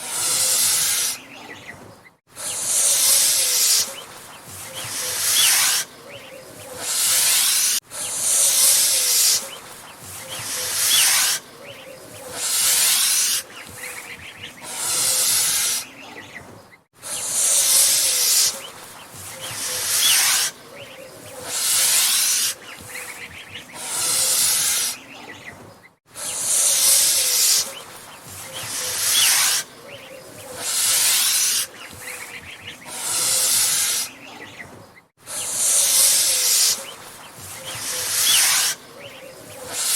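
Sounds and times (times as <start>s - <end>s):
goose hissing: 0.0s - 1.6s, 2.3s - 16.2s, 17.0s - 20.6s, 21.2s - 25.2s, 26.1s - 34.5s, 35.2s - 39.9s.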